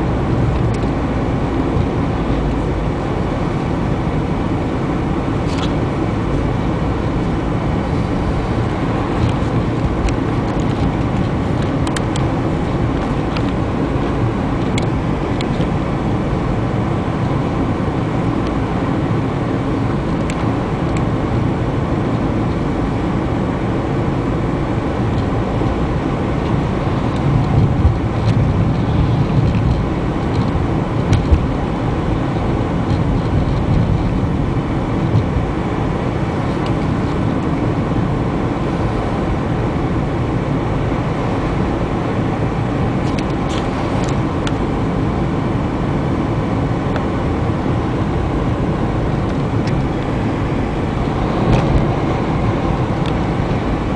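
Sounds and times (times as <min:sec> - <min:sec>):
car road noise from inside: 0:00.0 - 0:53.9.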